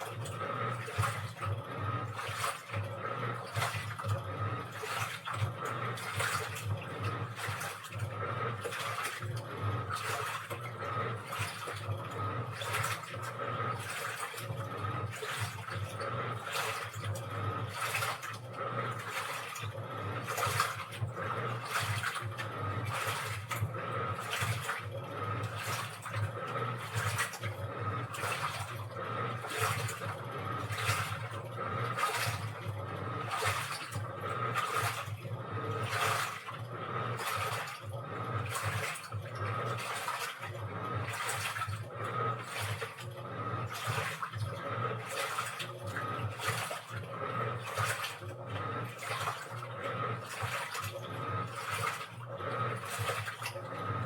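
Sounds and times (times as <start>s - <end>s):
washing machine motor hum: 0.0s - 54.0s
water sloshing in drum: 0.0s - 54.0s.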